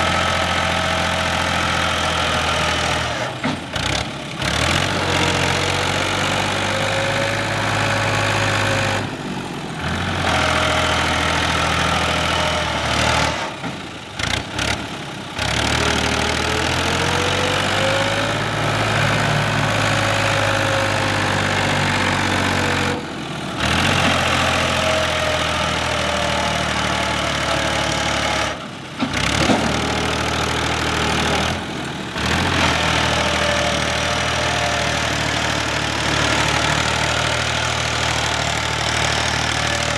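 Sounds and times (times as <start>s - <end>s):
tractor diesel engine straining: 0.0s - 39.9s.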